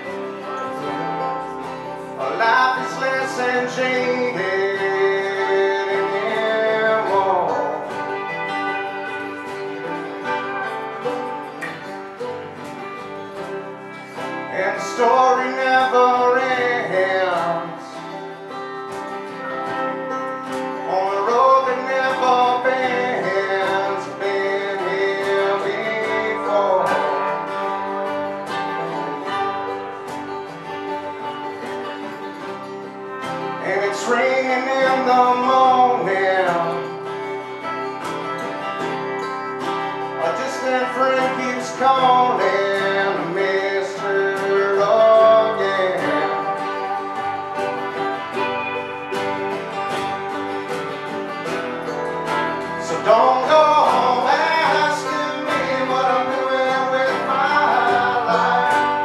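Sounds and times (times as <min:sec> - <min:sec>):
live country band playing: 0:00.0 - 0:59.0
person singing: 0:00.0 - 0:59.0.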